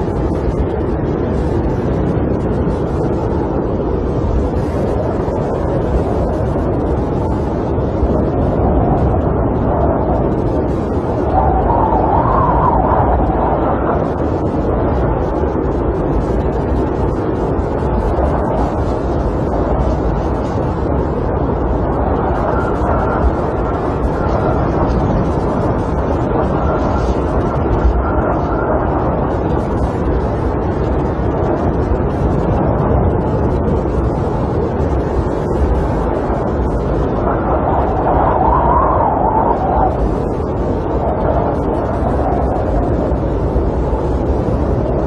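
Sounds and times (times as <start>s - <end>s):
snowstorm wind rushing: 0.0s - 45.0s.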